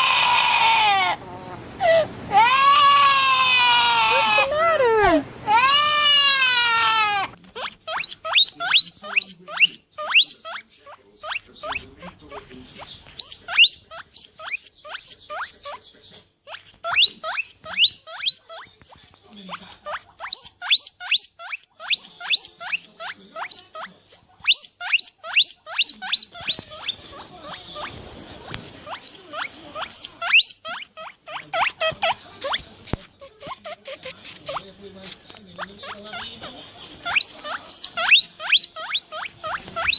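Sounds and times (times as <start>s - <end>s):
animal squeaking: 0.0s - 1.6s, 2.3s - 4.9s, 5.5s - 18.9s, 19.5s - 39.9s.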